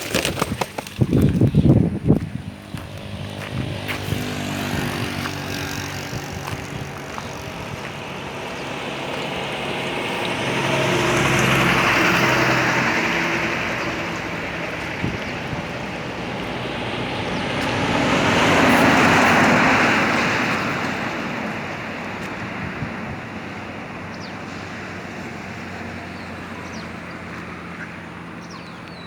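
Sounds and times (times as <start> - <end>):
vehicle passing: 0.9 - 29.0.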